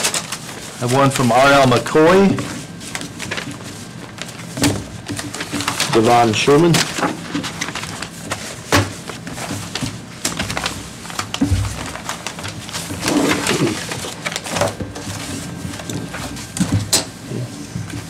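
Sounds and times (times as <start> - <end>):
paper rustling: 0.0 - 18.0.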